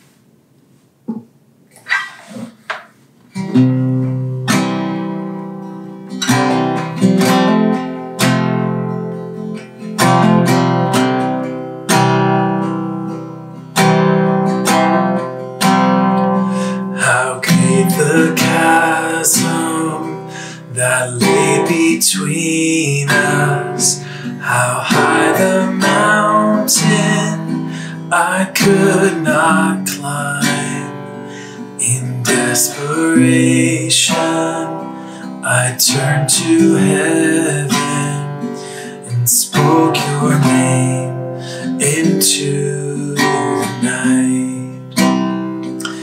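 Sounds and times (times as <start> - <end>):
acoustic guitar strummed chords: 2.7 - 46.0.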